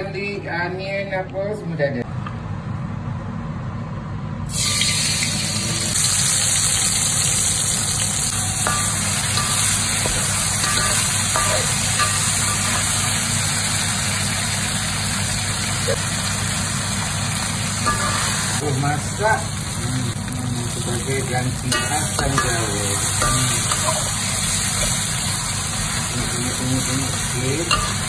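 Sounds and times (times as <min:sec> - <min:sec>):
paste sizzling in hot oil: 0:04.5 - 0:28.0.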